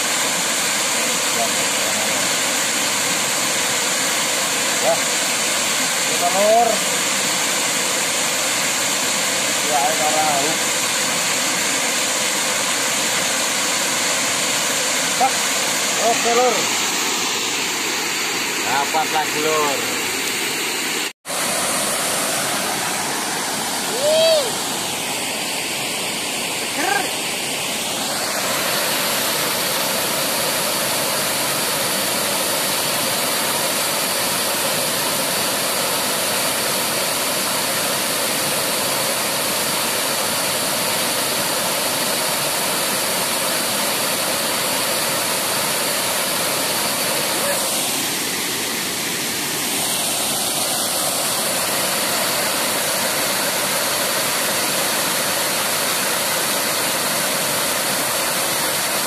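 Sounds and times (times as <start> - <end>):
water rushing over weir: 0.0 - 59.0.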